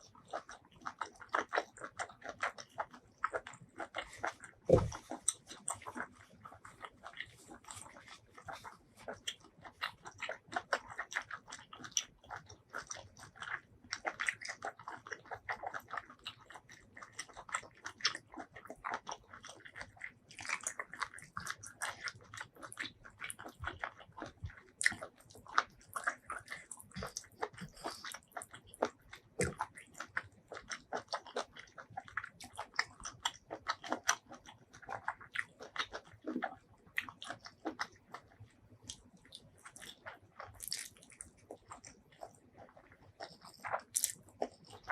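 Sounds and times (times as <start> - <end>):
person chewing food: 0.0 - 44.9.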